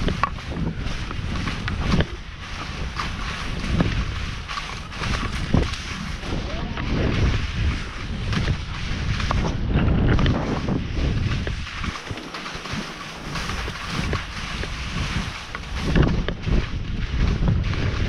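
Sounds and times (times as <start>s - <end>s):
skis scraping through snow: 0.0s - 18.0s
wind buffeting microphone: 0.0s - 18.0s.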